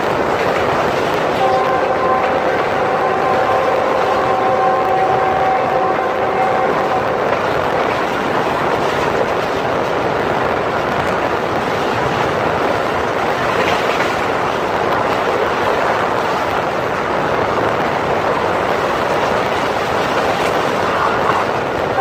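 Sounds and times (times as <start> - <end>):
train wheels rushing on rails: 0.0 - 22.0
wind: 0.0 - 22.0.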